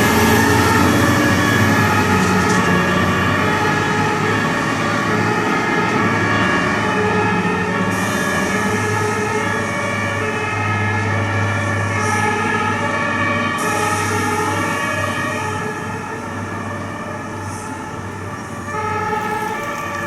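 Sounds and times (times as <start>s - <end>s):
truck engines droning: 0.0s - 20.0s
two-tone sirens: 0.0s - 20.0s.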